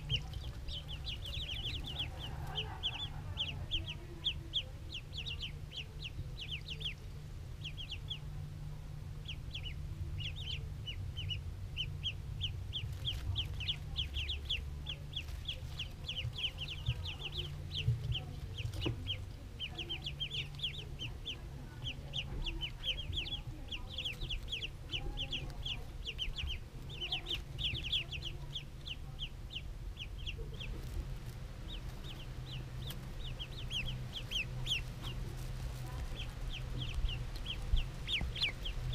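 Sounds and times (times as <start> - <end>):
ducklings peeping: 0.0 - 38.9
steady low hum: 0.0 - 38.9.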